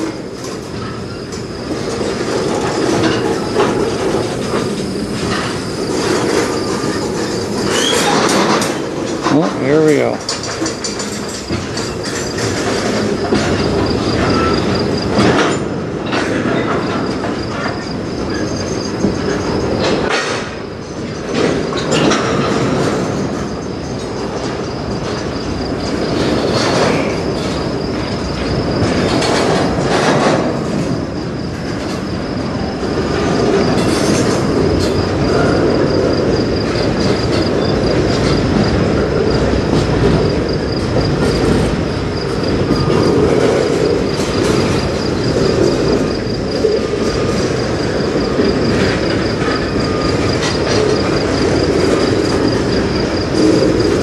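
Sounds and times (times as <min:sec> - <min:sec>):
train cars clanking: 0:00.0 - 0:54.0
train wheels rumbling on rails: 0:00.0 - 0:54.0
wheel squeals: 0:00.0 - 0:54.0.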